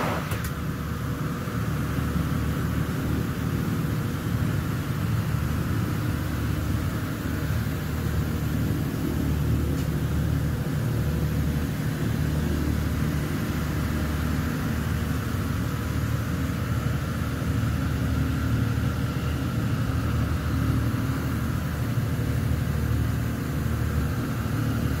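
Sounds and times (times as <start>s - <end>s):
ventilation fans rumbling: 0.0s - 25.0s.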